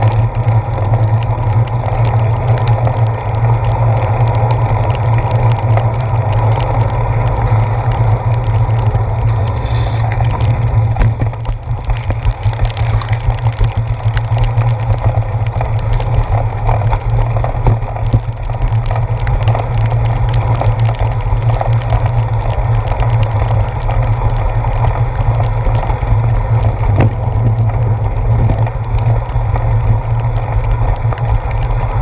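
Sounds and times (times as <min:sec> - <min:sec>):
raindrops clicking on camera: 0:00.0 - 0:32.0
rumble of wind and rain: 0:00.0 - 0:32.0.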